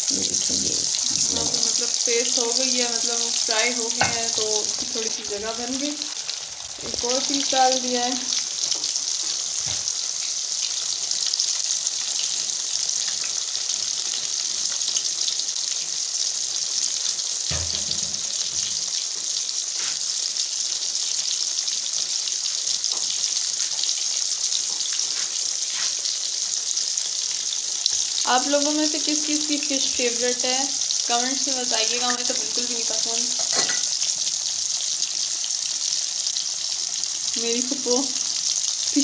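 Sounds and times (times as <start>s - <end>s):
fish deep-frying in oil: 0.0s - 39.0s.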